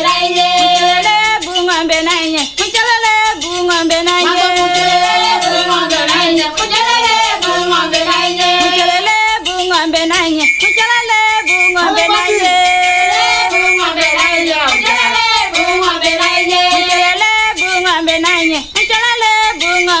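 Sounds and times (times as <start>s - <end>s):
fast dance percussion beat: 0.0s - 20.0s
person singing: 0.0s - 20.0s.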